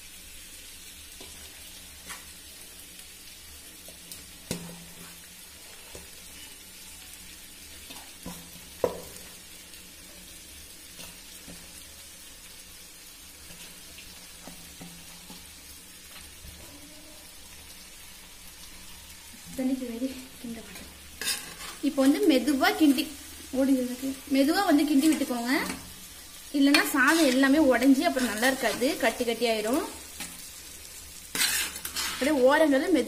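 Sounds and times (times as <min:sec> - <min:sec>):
rice frying sizzle: 0:00.0 - 0:33.0.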